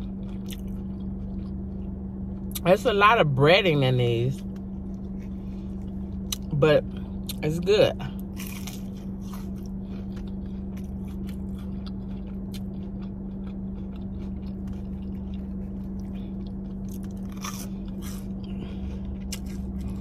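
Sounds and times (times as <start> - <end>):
chewing and crunching food: 0.0 - 3.0, 4.0 - 20.0
steady low hum: 0.0 - 20.0.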